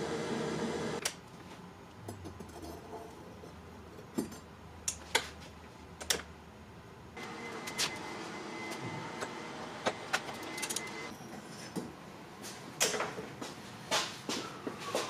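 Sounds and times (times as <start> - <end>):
steady high whine and hiss: 0.0 - 1.9, 4.2 - 15.0.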